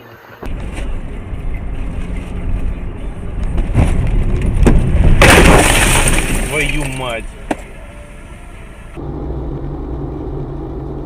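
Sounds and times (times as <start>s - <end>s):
car engine and road noise: 0.2s - 11.0s.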